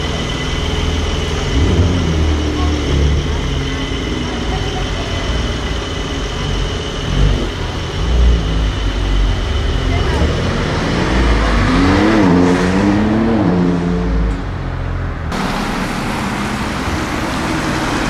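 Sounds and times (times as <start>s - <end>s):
car engine low drone: 0.0s - 18.0s.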